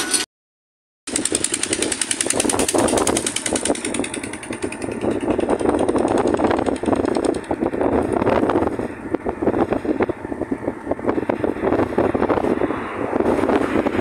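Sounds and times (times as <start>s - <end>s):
vehicle engine running: 1.1s - 14.0s.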